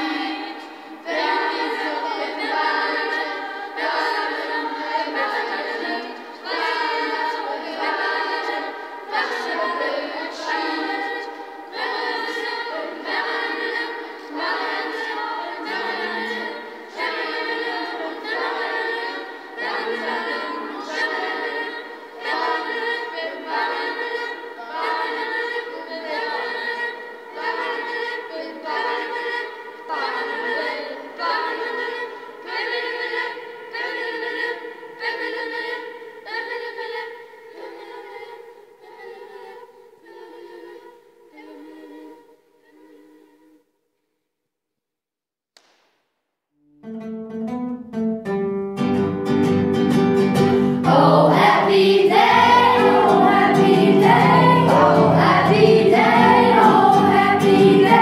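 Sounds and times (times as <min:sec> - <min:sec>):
children's choir singing a cappella: 0:00.0 - 0:43.7, 0:49.7 - 0:58.0.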